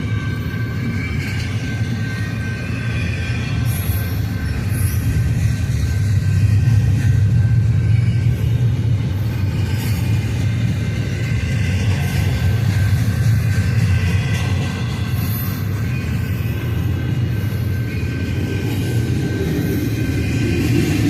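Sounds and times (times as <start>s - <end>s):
high tones from train wheels: 0.0s - 21.0s
train wheels rumbling on rails: 0.0s - 21.0s.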